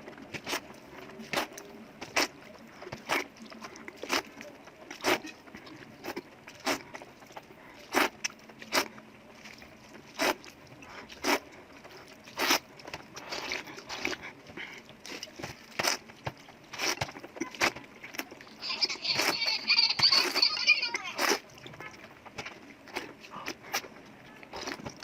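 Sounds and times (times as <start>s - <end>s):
crunching fried food: 0.0s - 25.0s
soft chewing: 0.0s - 25.0s.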